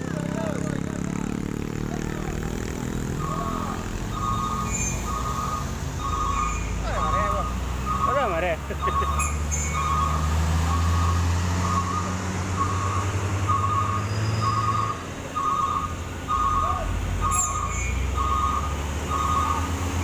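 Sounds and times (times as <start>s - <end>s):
diesel truck engine running: 0.0s - 20.0s
truck reversing alarm beeping: 2.4s - 20.0s.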